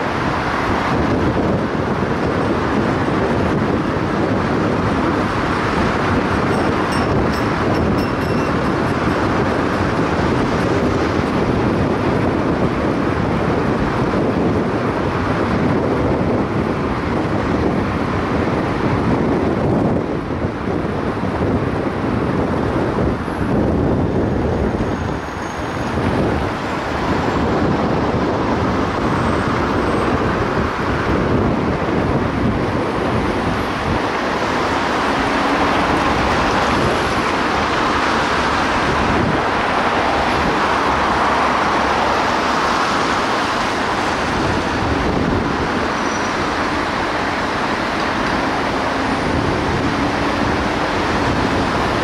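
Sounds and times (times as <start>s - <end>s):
city traffic rush: 0.0s - 52.0s.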